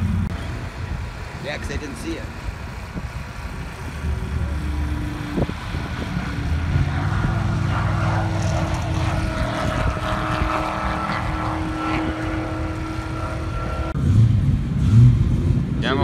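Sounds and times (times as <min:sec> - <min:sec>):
distant race car engine: 0:00.0 - 0:16.0.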